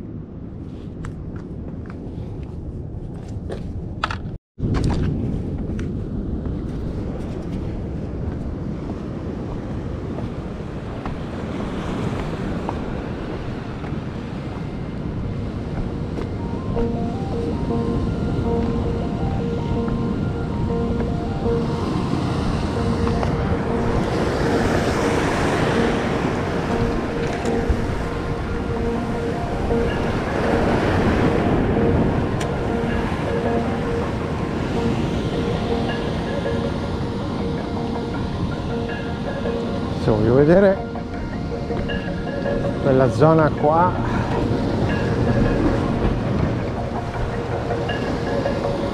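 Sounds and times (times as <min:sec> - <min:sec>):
wind buffeting microphone: 0:00.0 - 0:48.9
sea surf on rocky shore: 0:07.8 - 0:48.9.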